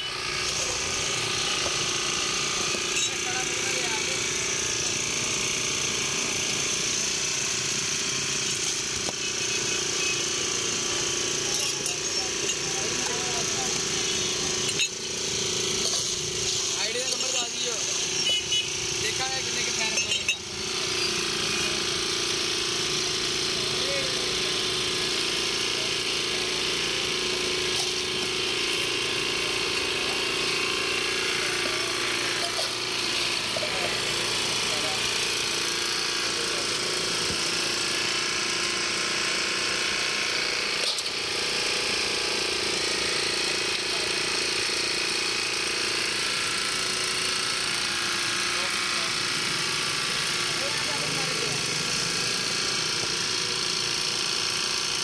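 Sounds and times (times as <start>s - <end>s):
motor humming with hiss: 0.0s - 55.0s.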